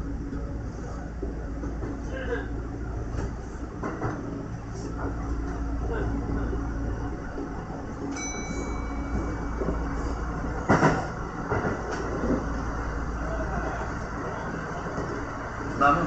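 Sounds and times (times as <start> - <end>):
wheels rumbling on rail: 0.0 - 16.0.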